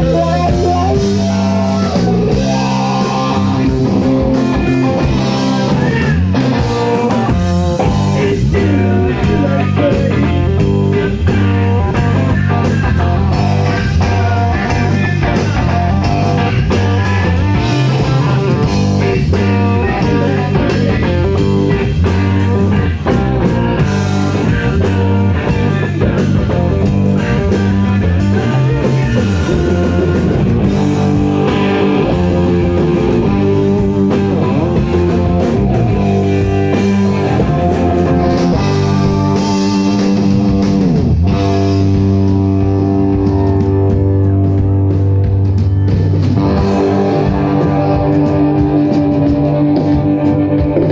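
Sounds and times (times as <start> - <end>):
guitar: 0.0 - 50.9
live rock band: 0.0 - 50.9.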